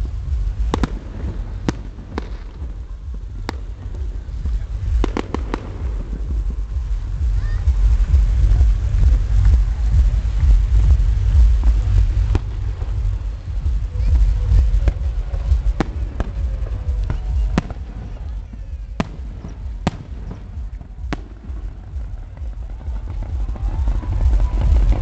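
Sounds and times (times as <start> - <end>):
fireworks bangs: 0.0 - 25.0
low rumble: 0.0 - 25.0.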